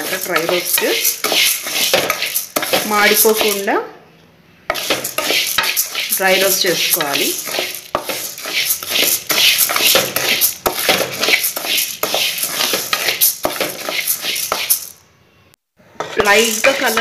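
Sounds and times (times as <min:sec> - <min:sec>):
grains rattling in pan: 0:00.0 - 0:03.7, 0:04.7 - 0:14.9, 0:16.2 - 0:17.0
spatula scraping metal pan: 0:00.0 - 0:03.7, 0:04.7 - 0:14.9, 0:16.0 - 0:17.0.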